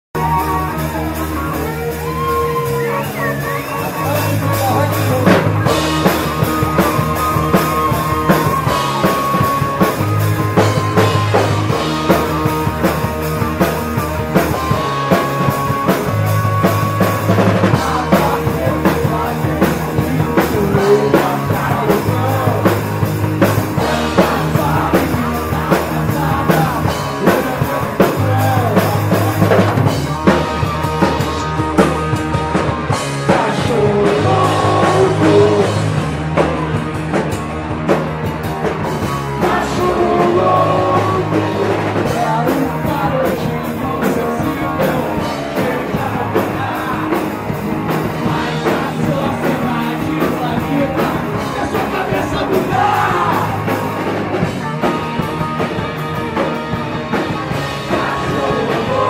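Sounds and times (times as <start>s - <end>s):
bass line: 0.1s - 59.0s
drum kit: 0.1s - 59.0s
electric guitar riff: 0.2s - 59.0s.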